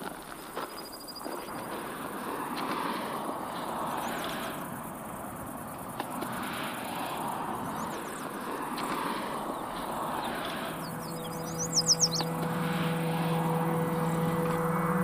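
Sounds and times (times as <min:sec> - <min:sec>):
open-air rushing noise: 0:00.0 - 0:15.0.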